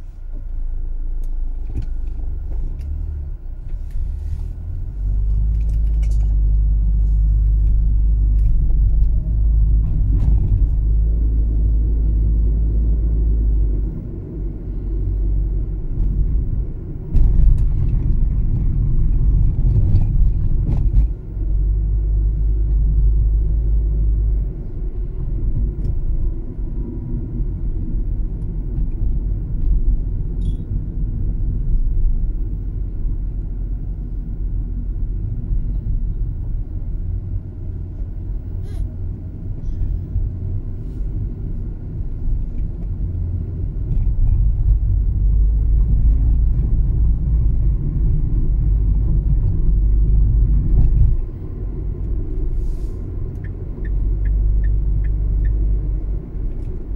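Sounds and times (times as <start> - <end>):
car driving rumble: 0.0 - 56.9.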